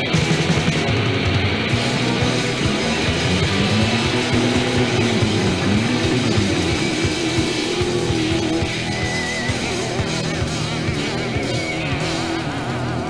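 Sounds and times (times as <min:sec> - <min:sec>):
punk rock song: 0:00.0 - 0:13.0.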